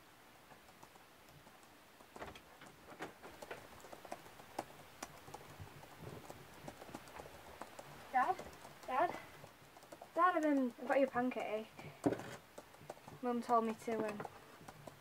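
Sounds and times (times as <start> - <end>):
laptop keyboard typing: 0.5 - 15.0.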